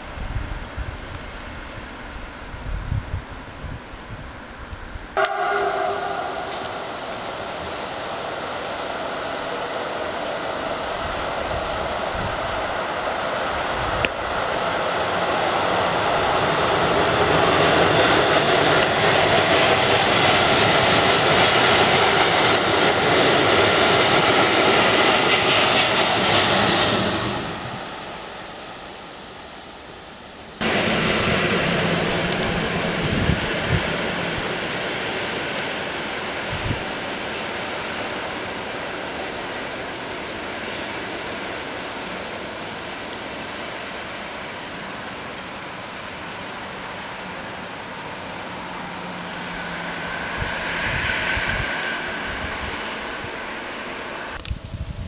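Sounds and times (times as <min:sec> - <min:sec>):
freight train rumbling past: 0:00.0 - 0:55.0
passenger train running: 0:00.0 - 0:55.0.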